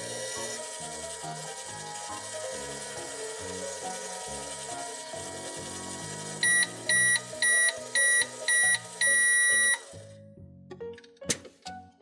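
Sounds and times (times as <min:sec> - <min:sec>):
toy microwave timer beeps: 0:00.0 - 0:10.0
background music: 0:00.0 - 0:12.0.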